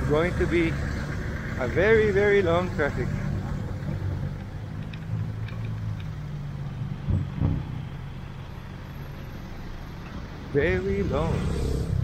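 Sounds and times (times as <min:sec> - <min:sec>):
traffic engines idling: 0:00.0 - 0:12.0.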